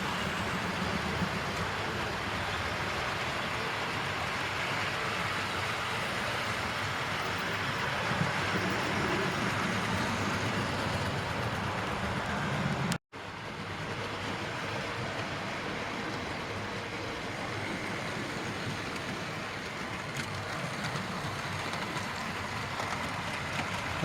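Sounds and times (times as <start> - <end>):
model trains whirring on track: 0.0 - 24.0.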